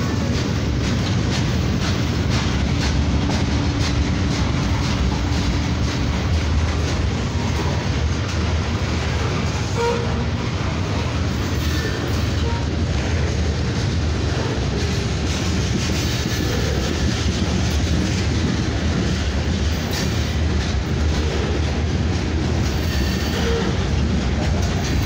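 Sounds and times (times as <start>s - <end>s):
freight train rumbling: 0.0s - 25.0s
wheels clacking over rail joints: 0.0s - 25.0s.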